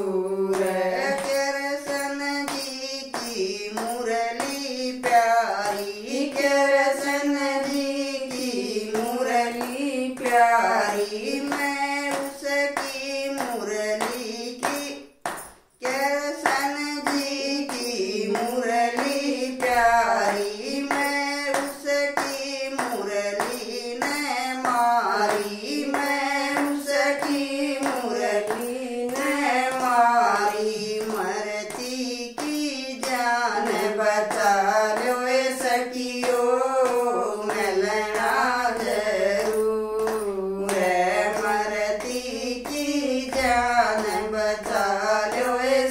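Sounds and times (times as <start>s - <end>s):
women singing devotional song: 0.0s - 45.9s
hand clapping: 0.4s - 45.9s.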